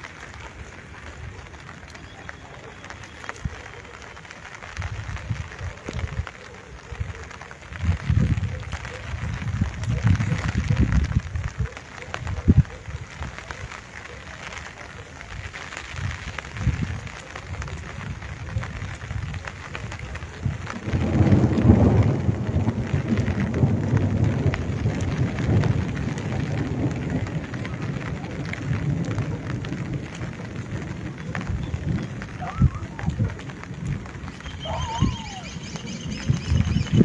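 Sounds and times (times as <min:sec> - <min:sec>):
gentle rain hissing: 0:00.0 - 0:37.0
low rumble of thunder: 0:04.7 - 0:13.7, 0:15.4 - 0:37.0.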